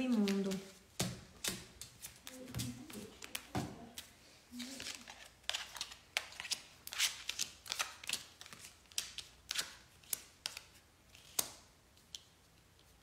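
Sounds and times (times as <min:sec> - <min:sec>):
cards being shuffled by hand: 0:00.0 - 0:13.0.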